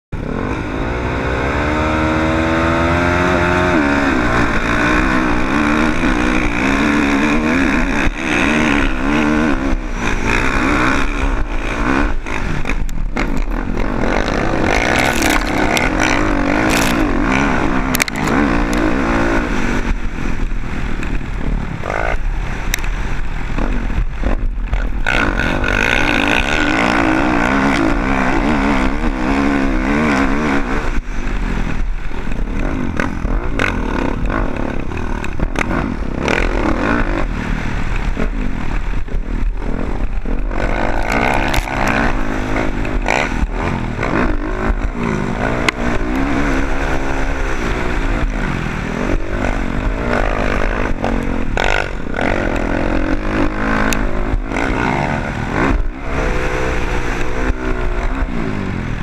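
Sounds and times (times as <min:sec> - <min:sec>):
motocross bike engine revving: 0:00.2 - 0:59.0.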